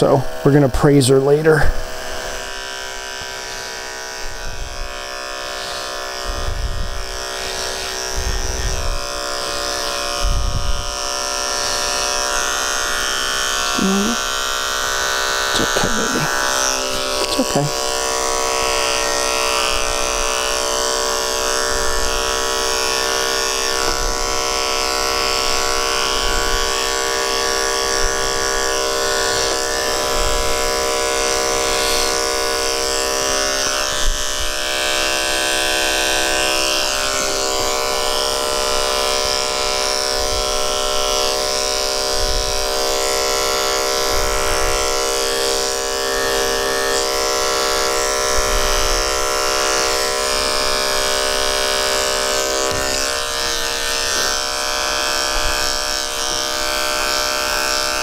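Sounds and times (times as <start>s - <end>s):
electric clippers buzzing: 0.0s - 58.0s.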